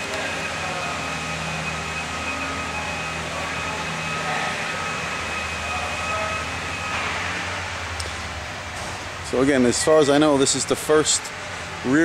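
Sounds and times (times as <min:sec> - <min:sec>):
faint steady whine: 0:00.0 - 0:12.0
ventilation hum and hiss: 0:00.0 - 0:12.0.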